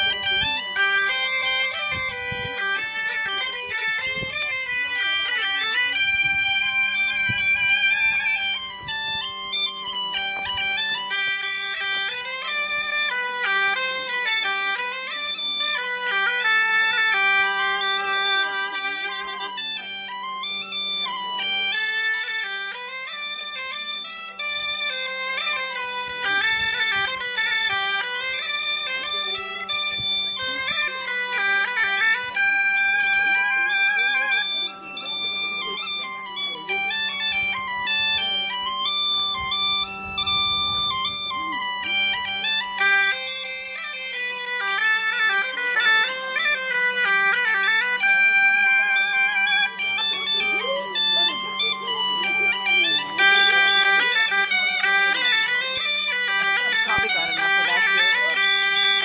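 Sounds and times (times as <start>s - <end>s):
bagpipe and bombarde playing tune: 0.0s - 59.0s
bagpipe drone: 0.0s - 59.0s.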